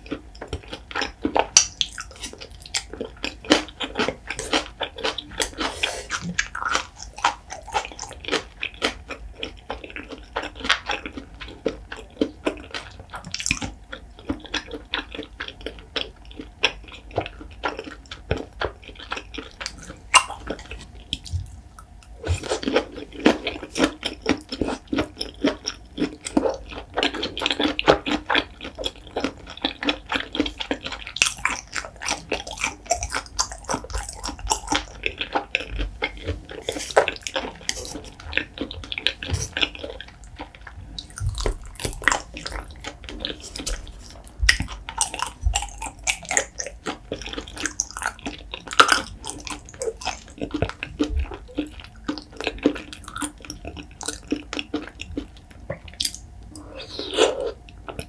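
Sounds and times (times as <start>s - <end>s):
wet chewing: 0.0s - 58.0s.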